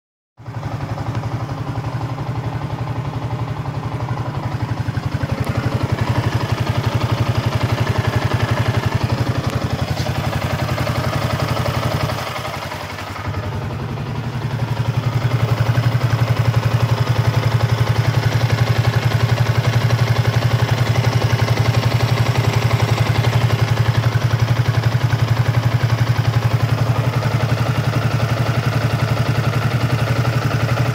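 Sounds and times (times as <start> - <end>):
motorcycle engine idling: 0.4 - 30.9.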